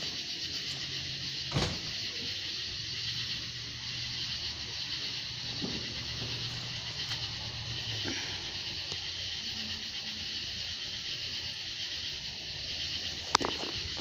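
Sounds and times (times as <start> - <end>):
insect chorus buzzing: 0.0 - 14.0.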